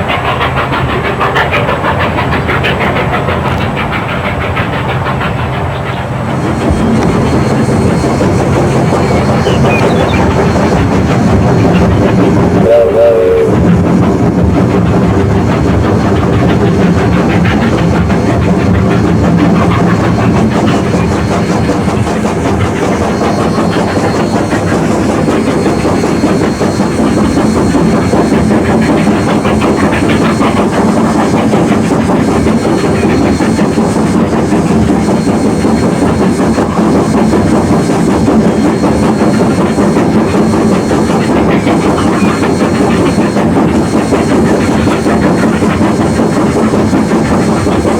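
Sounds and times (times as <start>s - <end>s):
train running along track: 0.0s - 47.9s.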